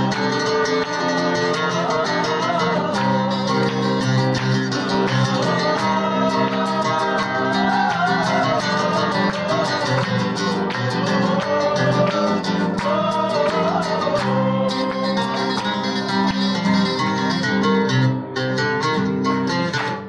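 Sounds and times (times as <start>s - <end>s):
acoustic guitar playing: 0.0s - 20.0s
oud playing: 0.0s - 20.0s.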